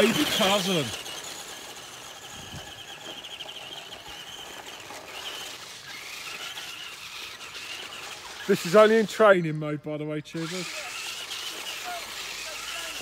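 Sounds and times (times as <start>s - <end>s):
rc truck motor whine: 0.0s - 13.0s.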